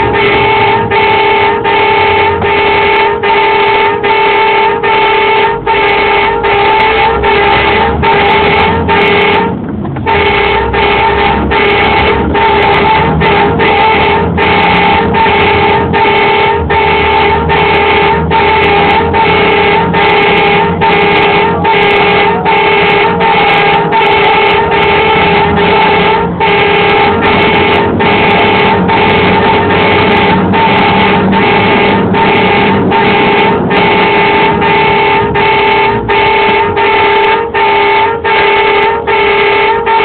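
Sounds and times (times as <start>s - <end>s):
tow truck warning horn blasts: 0.0s - 40.0s.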